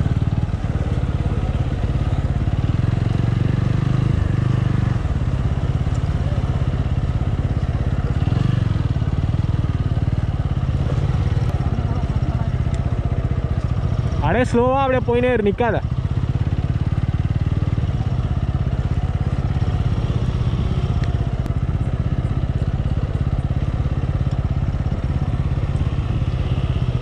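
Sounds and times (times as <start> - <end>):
single-cylinder motorcycle engine: 0.0 - 27.0.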